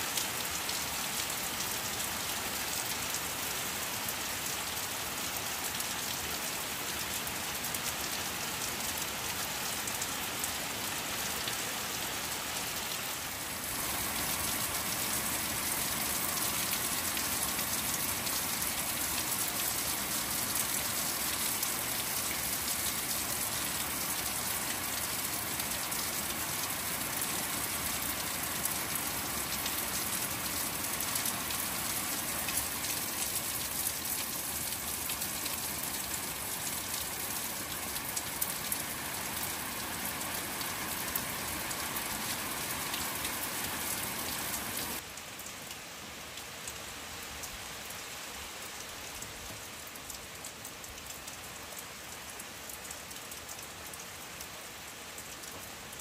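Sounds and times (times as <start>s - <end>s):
rain on plants and pottery: 0.0s - 56.0s.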